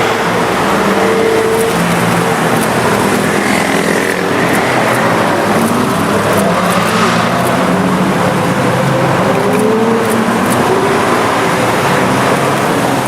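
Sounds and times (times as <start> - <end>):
supercar engines running: 0.0 - 13.0.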